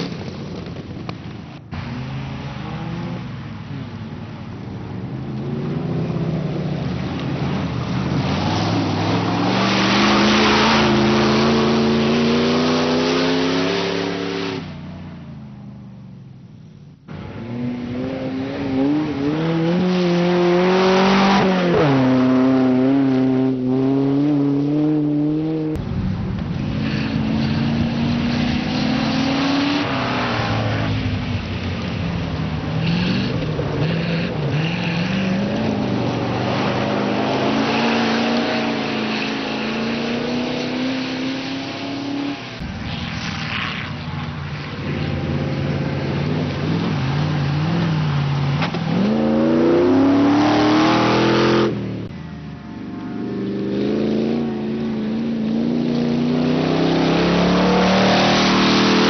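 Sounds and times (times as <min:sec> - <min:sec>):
racing vehicle engines revving: 0:00.0 - 0:15.2, 0:17.1 - 0:52.3, 0:53.0 - 0:59.0.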